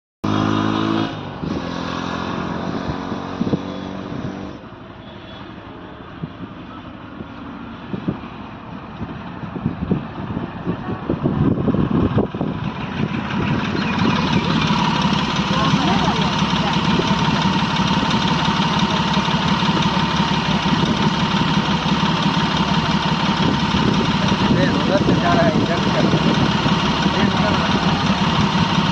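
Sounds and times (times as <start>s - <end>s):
train engine running: 5.6s - 28.9s.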